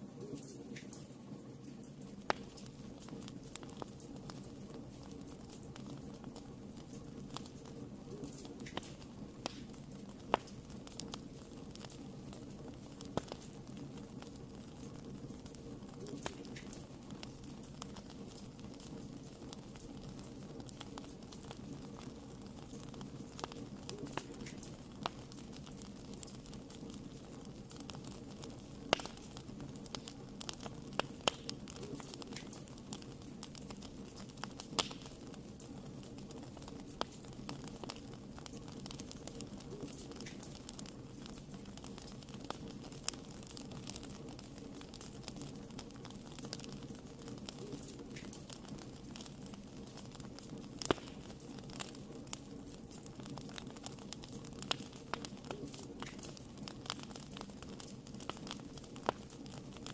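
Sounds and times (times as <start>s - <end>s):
fire crackling and popping: 0.0s - 59.9s
low rush of flames: 0.0s - 59.9s.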